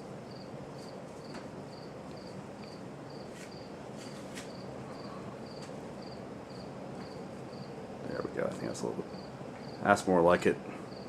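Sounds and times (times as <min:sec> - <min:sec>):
cricket chirping: 0:00.0 - 0:08.3, 0:08.9 - 0:10.0, 0:10.8 - 0:11.0
ceiling fan whooshing: 0:00.0 - 0:11.0.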